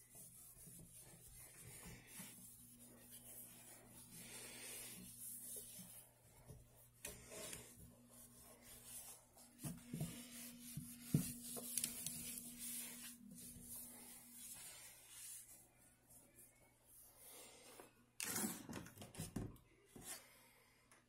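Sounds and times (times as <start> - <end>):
cloth wiping steel sink: 0.0 - 17.1.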